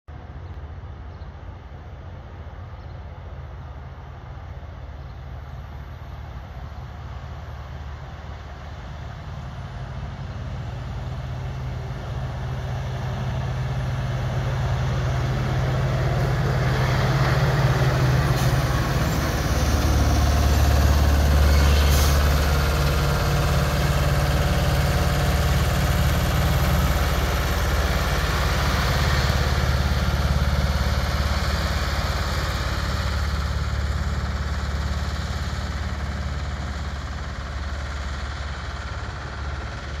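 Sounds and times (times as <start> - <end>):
diesel truck engine passing: 7.7 - 40.0.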